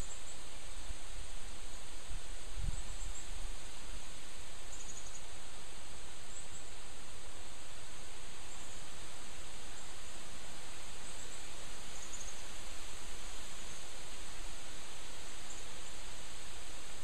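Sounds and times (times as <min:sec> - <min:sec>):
wind rustling through leaves: 0:00.0 - 0:17.0.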